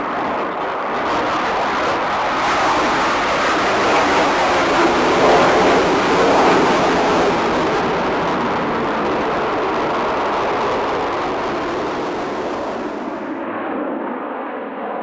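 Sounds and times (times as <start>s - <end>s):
jet roar: 0.0s - 15.0s.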